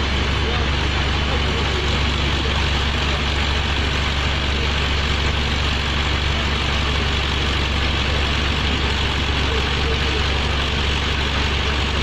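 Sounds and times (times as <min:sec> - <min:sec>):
drilling rig engine running: 0:00.0 - 0:12.0.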